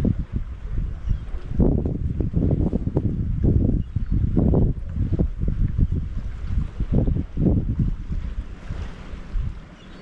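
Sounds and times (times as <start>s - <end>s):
small waves washing against a pier: 0.0s - 10.0s
wind buffeting the microphone: 0.0s - 10.0s.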